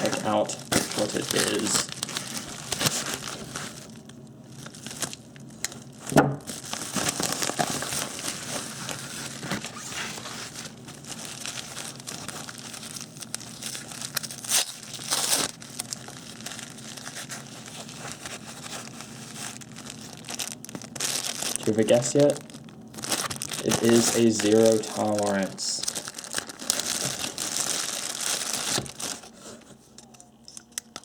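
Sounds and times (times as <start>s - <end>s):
packaging crinkling and tearing: 0.0s - 31.0s.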